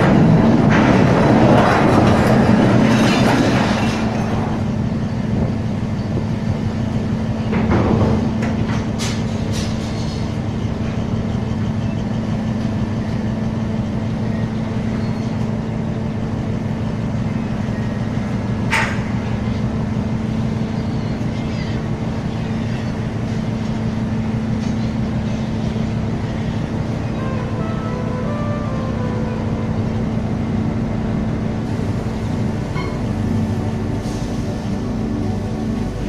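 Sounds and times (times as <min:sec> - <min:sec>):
engine machinery low hum: 0:00.0 - 0:36.0.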